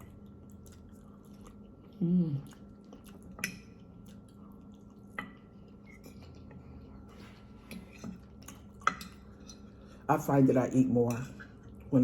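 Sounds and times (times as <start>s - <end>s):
soft chewing and mouth noises: 0.0s - 12.0s.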